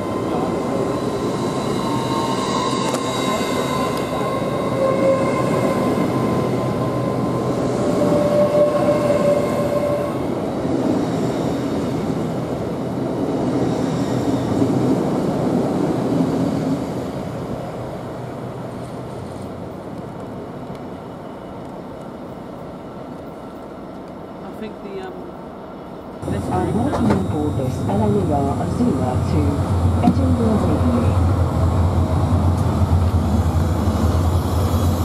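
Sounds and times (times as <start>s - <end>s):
train wheels rumbling on rail: 0.0s - 25.3s, 26.2s - 35.0s.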